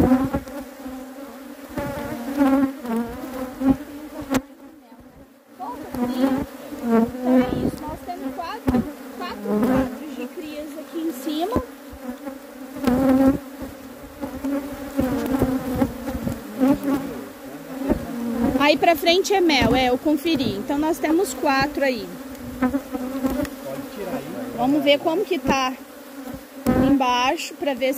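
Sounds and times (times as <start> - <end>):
bees buzzing: 0.0 - 27.9.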